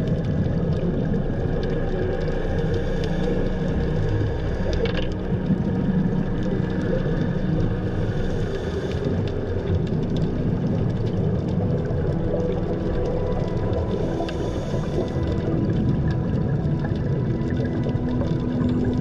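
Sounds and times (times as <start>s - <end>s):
low underwater hum: 0.0s - 19.0s
regulator bubbles gurgling: 0.0s - 19.0s.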